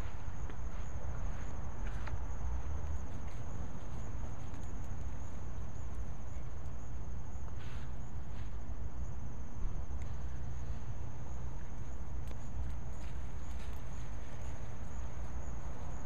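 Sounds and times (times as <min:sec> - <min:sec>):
crickets chirring: 0:00.0 - 0:16.0
low steady rumble: 0:00.0 - 0:16.0.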